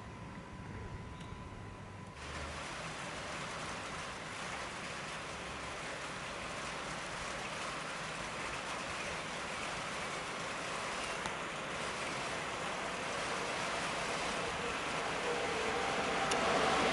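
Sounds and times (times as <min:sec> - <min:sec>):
heavy rain pouring: 0:02.2 - 0:16.9.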